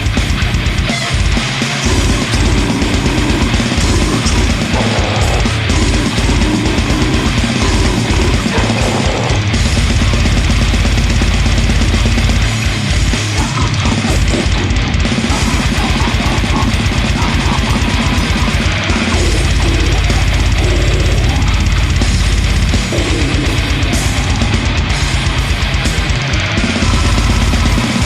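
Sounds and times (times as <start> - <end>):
death metal song: 0.0 - 28.0
distorted guitars: 0.0 - 28.0
rapid kick drums: 0.0 - 28.0.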